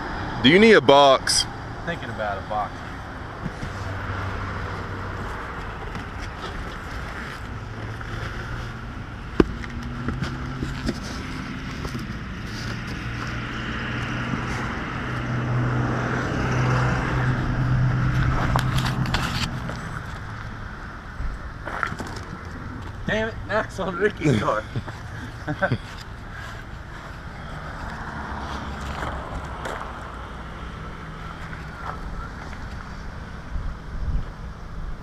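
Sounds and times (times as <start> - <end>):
engine humming: 0.0 - 35.0.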